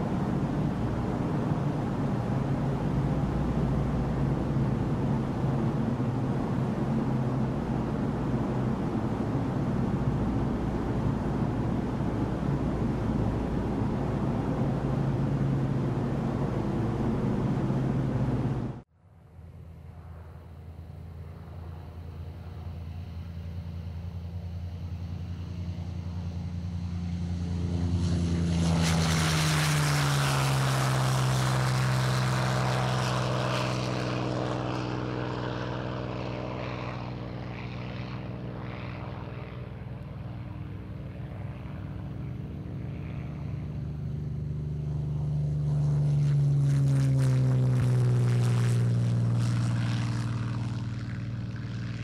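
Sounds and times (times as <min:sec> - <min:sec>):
propeller airplane engine drone: 0:00.0 - 0:52.0.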